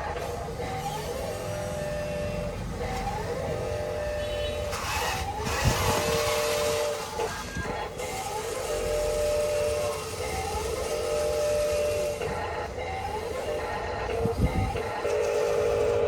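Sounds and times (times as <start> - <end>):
small electric motors whining: 0.0 - 16.0.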